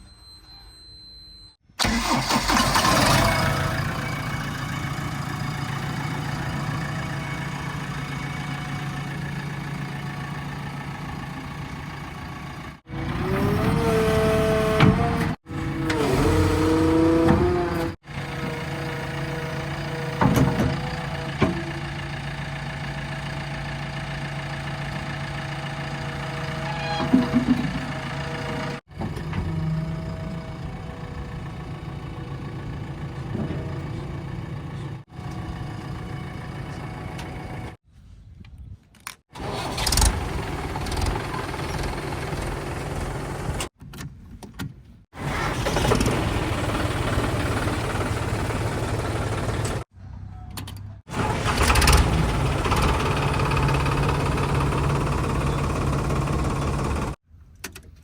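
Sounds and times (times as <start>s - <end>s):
diesel engines running: 1.8s - 37.8s, 39.3s - 43.7s, 45.2s - 57.2s.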